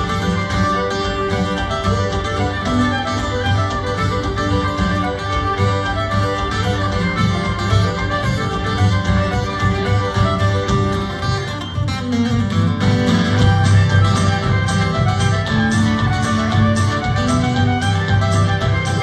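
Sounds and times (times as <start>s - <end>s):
fiddle playing: 0.0s - 19.0s
strummed acoustic guitar: 0.0s - 19.0s.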